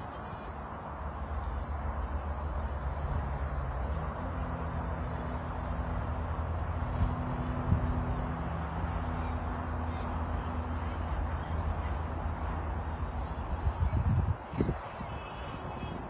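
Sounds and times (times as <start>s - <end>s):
low engine hum: 0.0s - 16.0s
rushing outdoor noise: 0.0s - 16.0s.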